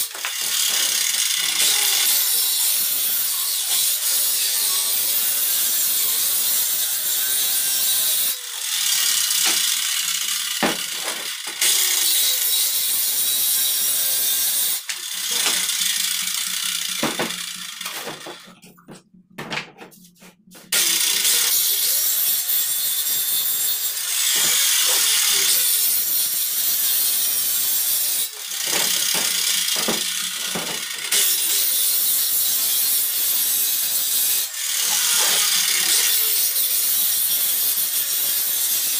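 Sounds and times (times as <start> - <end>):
circular saw cutting wood: 0.0 - 18.9, 19.8 - 38.9.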